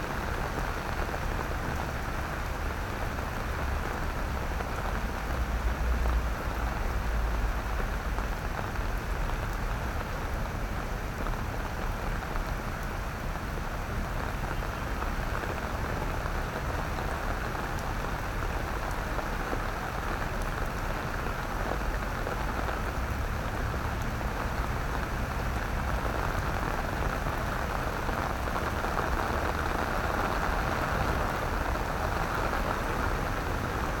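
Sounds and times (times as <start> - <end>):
rain on wet paving: 0.0 - 34.0.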